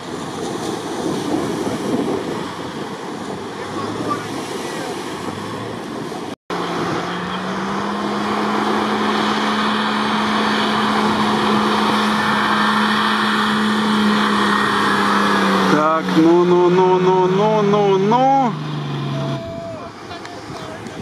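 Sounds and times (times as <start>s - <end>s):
suv engine at high revs: 0.0s - 21.0s
tyres churning through water and sand: 0.0s - 21.0s.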